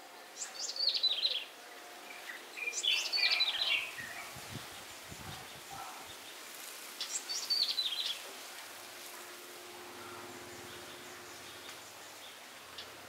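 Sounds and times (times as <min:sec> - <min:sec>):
faint steady hum: 0:00.0 - 0:13.0
outdoor background noise: 0:00.0 - 0:13.0
songbird chirping: 0:00.0 - 0:13.0.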